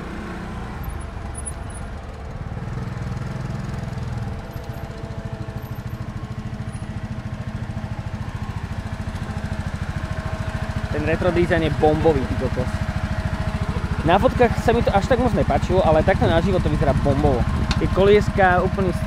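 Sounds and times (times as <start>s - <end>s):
quad-bike engine idling: 0.0s - 19.0s.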